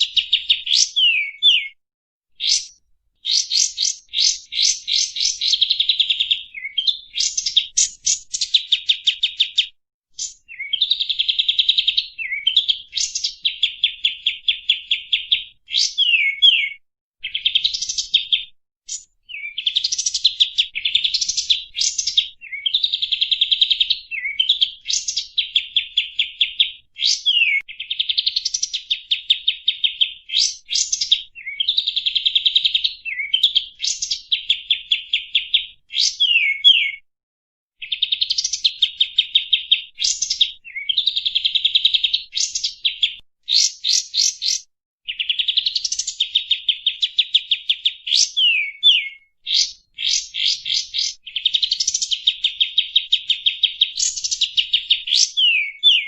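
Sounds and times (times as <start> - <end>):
bird singing trills and whistles: 0.0 - 1.8, 2.4 - 37.1, 37.8 - 56.0.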